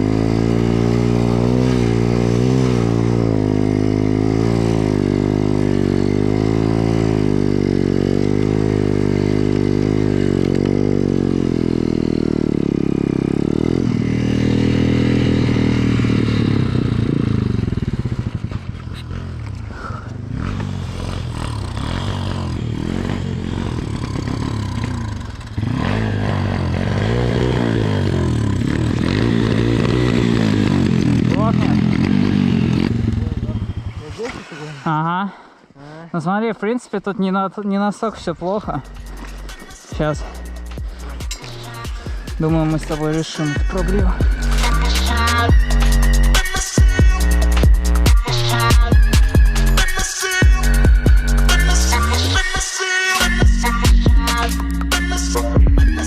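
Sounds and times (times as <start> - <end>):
motorbike engine revving: 0.0 - 35.5, 38.5 - 56.0.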